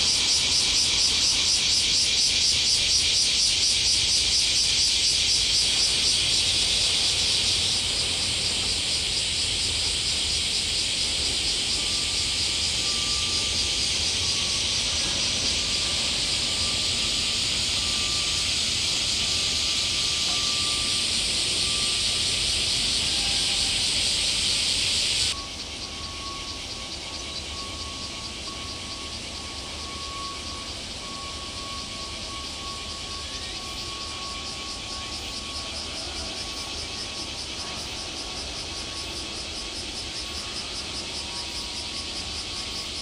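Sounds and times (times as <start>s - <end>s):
cicadas droning: 0.0s - 43.0s.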